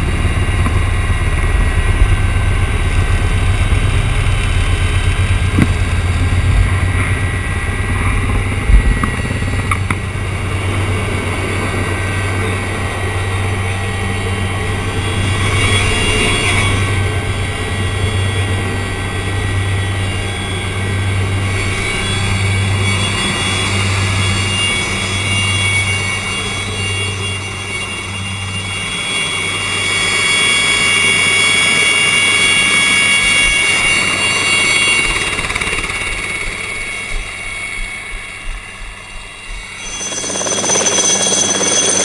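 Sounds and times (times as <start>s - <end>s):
helicopter rotor beat: 0.0s - 42.0s
helicopter turbine whine: 0.0s - 42.0s.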